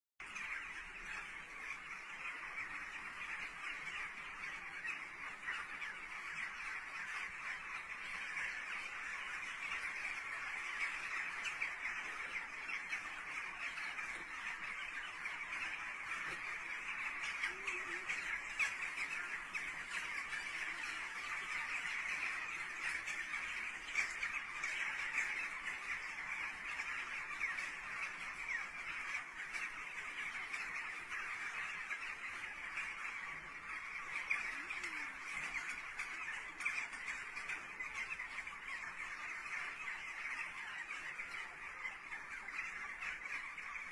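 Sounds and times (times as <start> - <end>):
flock of birds screeching: 0.2 - 43.9.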